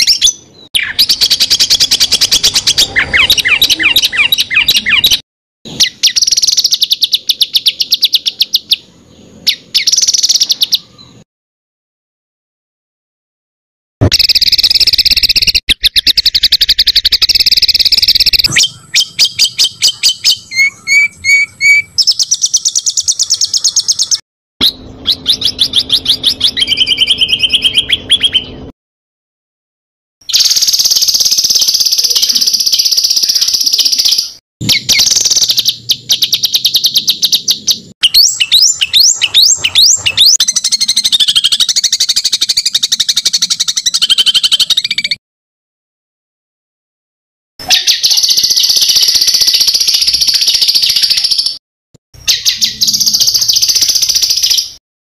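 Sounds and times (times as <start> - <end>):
songbird trills and chirps: 0.0 - 11.2, 14.1 - 28.7, 30.3 - 45.2, 47.7 - 51.6, 52.2 - 54.8.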